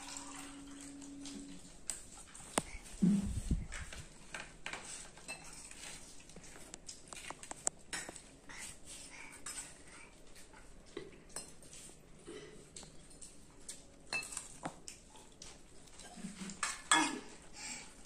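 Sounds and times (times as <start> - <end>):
hands mixing rice: 0.0 - 18.0.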